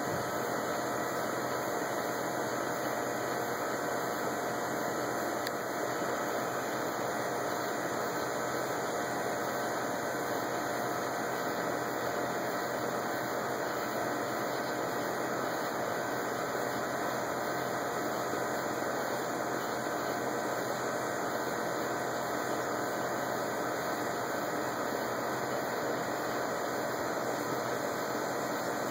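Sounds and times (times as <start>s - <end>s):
steady background hum and hiss: 0.0s - 28.9s.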